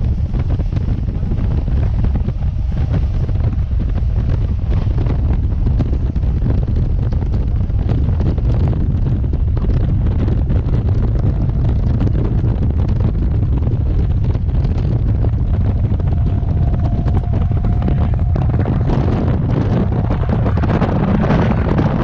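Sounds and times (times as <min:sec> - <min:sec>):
faint steady whine: 0:00.0 - 0:22.0
train rumbling: 0:00.0 - 0:22.0.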